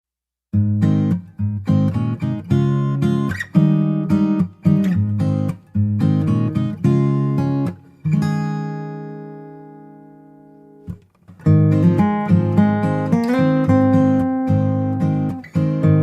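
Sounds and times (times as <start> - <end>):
acoustic guitar strumming chords: 0.6 - 16.0.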